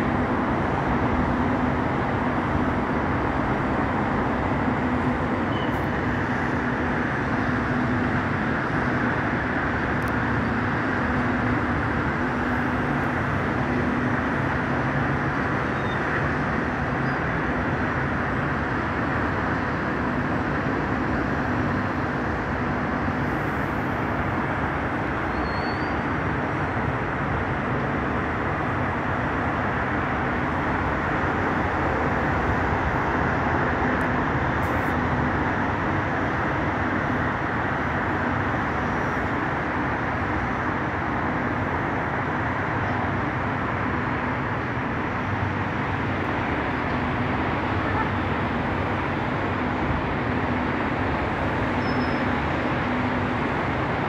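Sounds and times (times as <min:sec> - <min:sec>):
distant highway traffic roar: 0:00.0 - 0:54.0.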